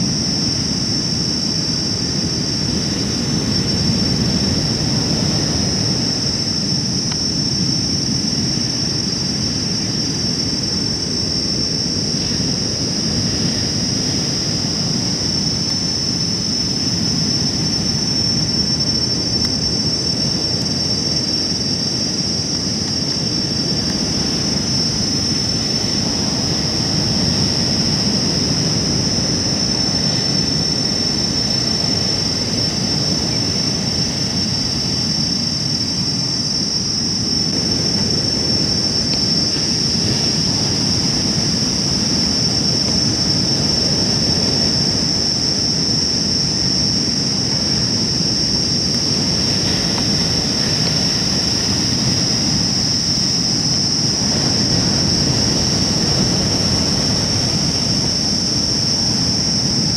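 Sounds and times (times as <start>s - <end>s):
high-pitched whine: 0.0s - 59.9s
wind: 0.0s - 59.9s.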